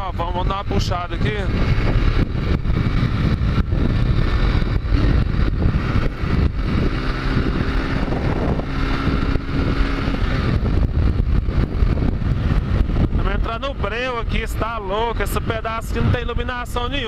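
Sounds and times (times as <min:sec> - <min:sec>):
motorcycle engine running hard: 0:00.0 - 0:17.0
wind noise on microphone: 0:00.0 - 0:17.0.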